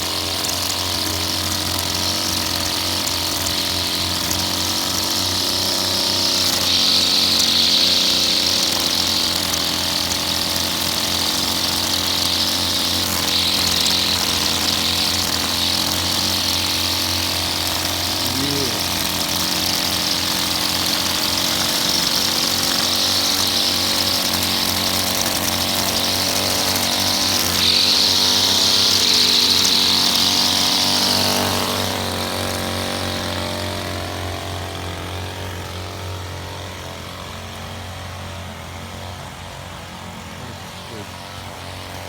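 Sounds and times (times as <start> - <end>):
string trimmer running: 0.0 - 42.0
trimmer line hissing through grass: 0.0 - 42.0.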